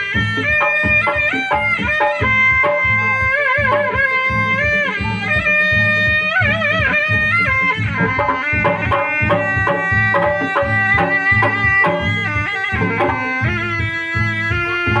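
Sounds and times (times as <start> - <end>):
hand drum strokes: 0.0 - 15.0
reedy wind instrument melody: 0.0 - 15.0.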